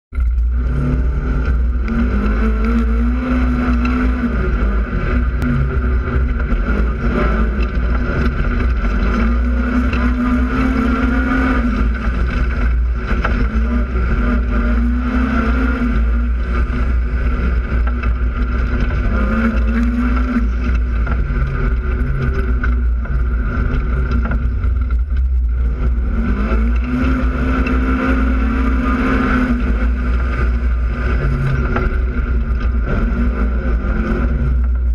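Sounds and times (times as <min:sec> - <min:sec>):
off-road vehicle engine revving: 0:00.1 - 0:34.9.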